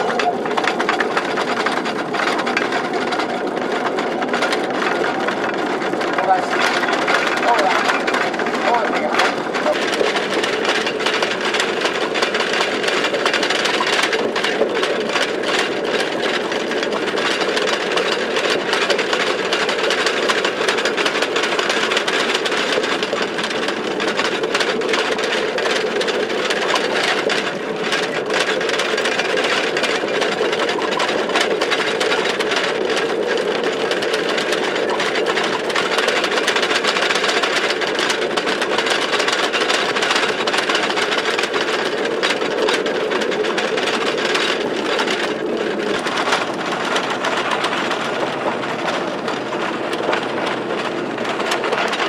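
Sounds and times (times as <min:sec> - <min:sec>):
running gear rattling and clicking: 0:00.0 - 0:52.0
trolley train wheels rumbling: 0:00.0 - 0:52.0.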